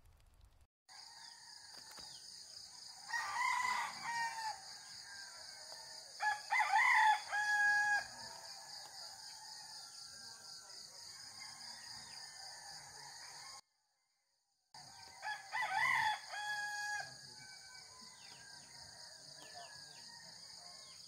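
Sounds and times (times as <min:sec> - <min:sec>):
rooster crowing: 0:00.9 - 0:02.0, 0:02.8 - 0:13.6, 0:14.8 - 0:21.0.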